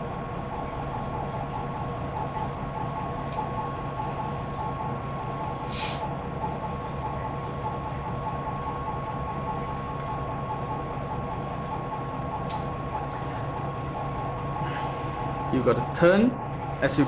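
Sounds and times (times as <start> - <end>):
high-pressure pump humming and pulsing: 0.0 - 17.0.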